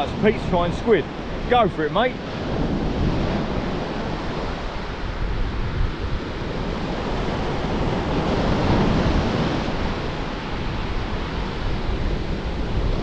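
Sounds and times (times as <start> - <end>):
waves breaking on pebble shore: 0.0 - 13.0
wind buffeting microphone: 0.0 - 13.0.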